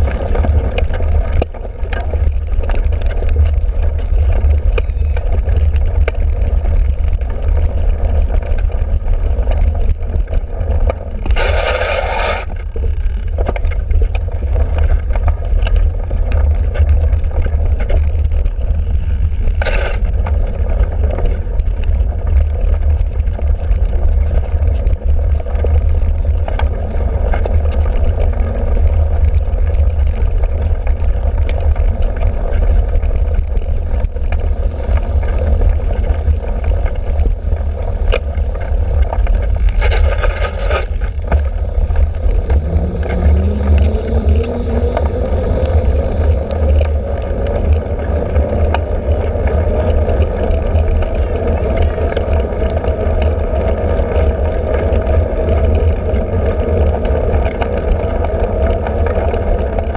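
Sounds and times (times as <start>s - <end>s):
bike rumbling and rattling: 0.0s - 59.9s
wind buffeting microphone: 0.0s - 59.9s.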